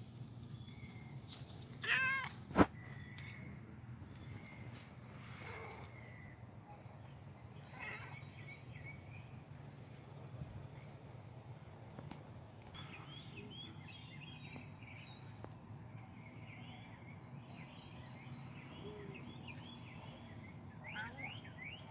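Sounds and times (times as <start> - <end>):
faint outdoor background hum: 0.0 - 21.9
small birds chirping: 0.0 - 21.9.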